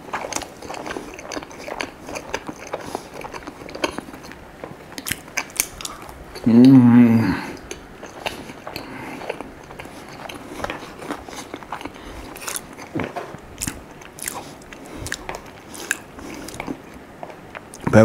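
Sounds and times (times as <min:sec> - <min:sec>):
person biting and chewing: 0:00.0 - 0:06.8, 0:07.4 - 0:17.8.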